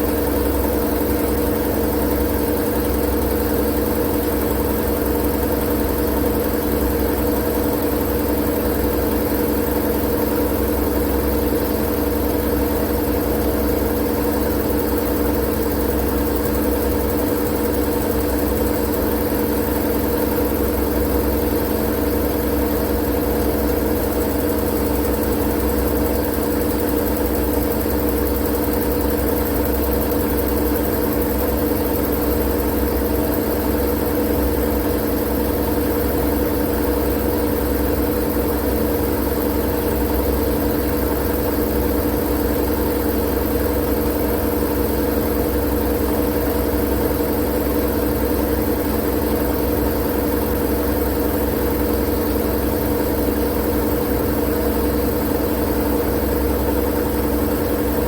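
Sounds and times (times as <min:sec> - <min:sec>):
steady machine drone: 0:00.0 - 0:58.0.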